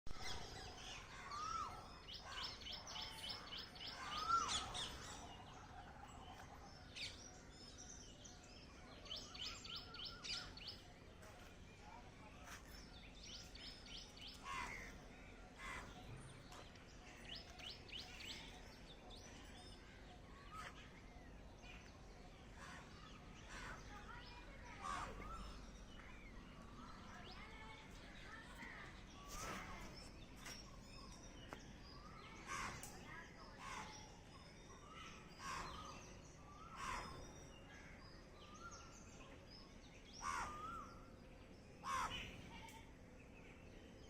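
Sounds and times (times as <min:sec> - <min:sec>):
birds chirping: 0:00.1 - 0:44.0.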